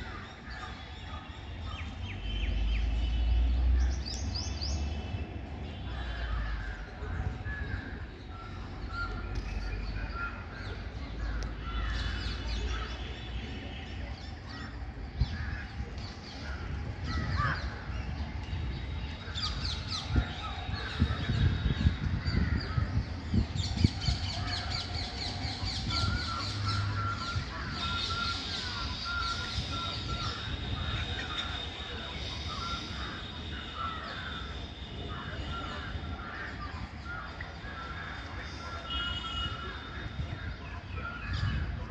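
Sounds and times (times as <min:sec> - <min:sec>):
birds chirping: 0:00.0 - 0:41.6.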